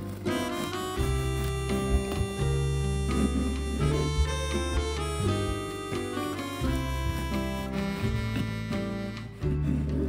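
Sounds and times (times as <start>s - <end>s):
acoustic guitar tune: 0.0s - 10.0s.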